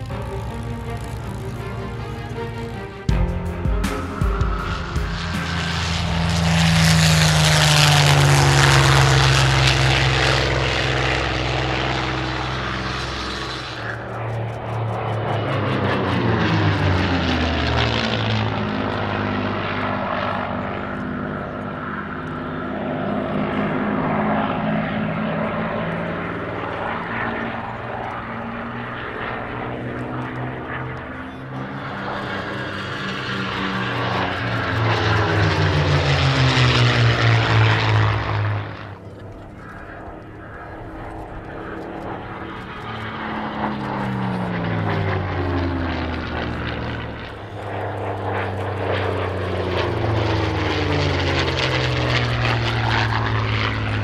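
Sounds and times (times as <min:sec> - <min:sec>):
propeller planes flying past: 0:00.0 - 0:54.0.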